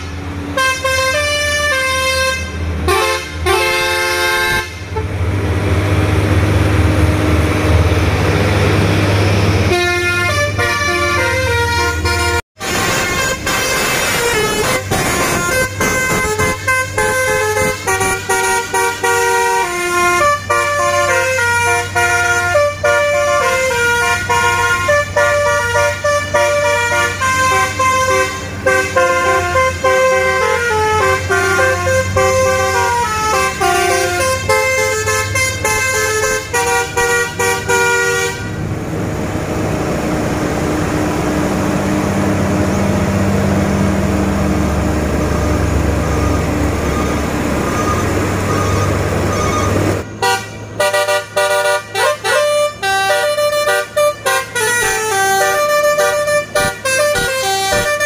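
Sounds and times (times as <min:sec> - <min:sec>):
multi-tone truck horn melody: 0:00.0 - 0:05.3, 0:09.6 - 0:38.7, 0:44.6 - 0:58.0
road noise: 0:00.0 - 0:58.0
truck engine: 0:00.0 - 0:58.0.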